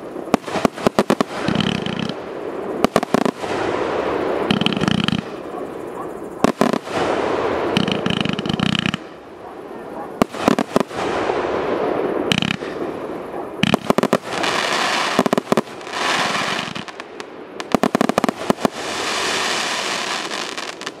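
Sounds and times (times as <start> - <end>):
crackling hiss of bursting stars: 0.0 - 21.0
rapid sharp firework bangs: 0.0 - 21.0.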